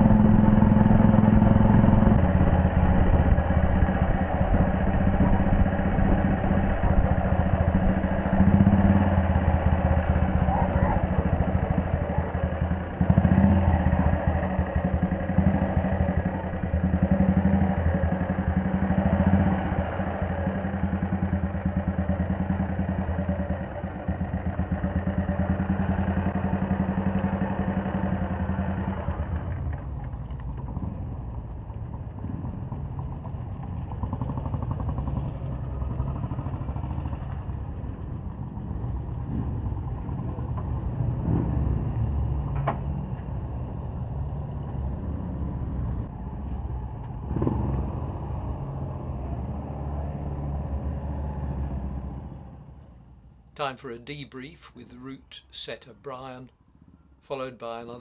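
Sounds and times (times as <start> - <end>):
motorcycles idling: 0.0 - 49.6
motorcycle engine running: 0.0 - 53.4.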